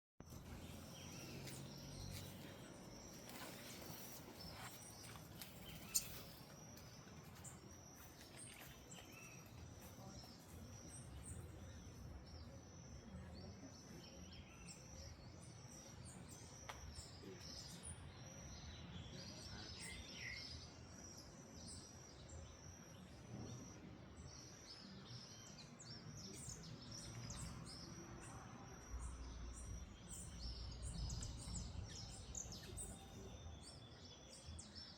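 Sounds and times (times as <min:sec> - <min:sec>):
birds chirping: 0:00.2 - 0:34.9.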